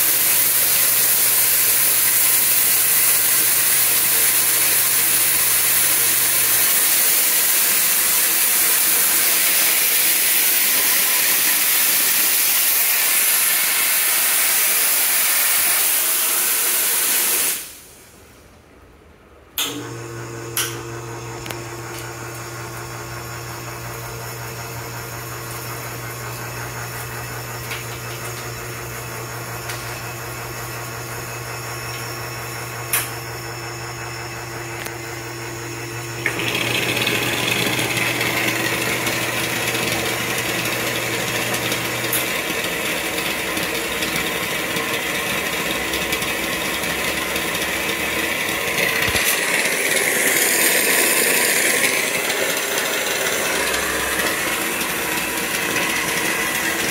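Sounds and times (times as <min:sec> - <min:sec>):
espresso machine humming: 0:00.0 - 0:14.5, 0:19.6 - 0:56.9.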